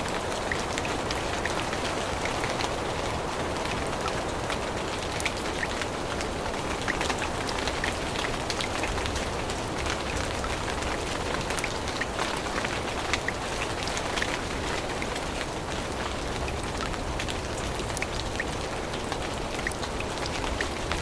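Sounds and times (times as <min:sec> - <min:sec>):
rain on leaves: 0:00.0 - 0:21.0.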